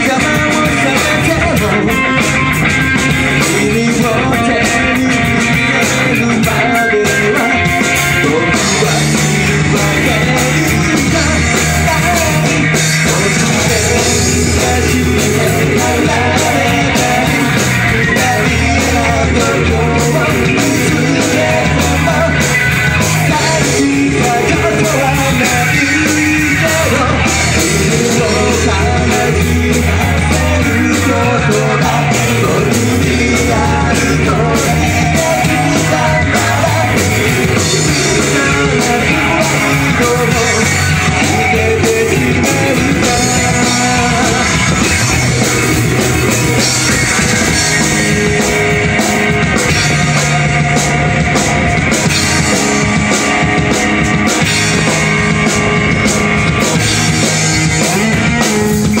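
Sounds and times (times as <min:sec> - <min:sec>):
person singing: 0:00.0 - 0:55.1, 0:56.5 - 0:59.0
drum kit: 0:00.0 - 0:59.0
electric guitars: 0:00.0 - 0:59.0.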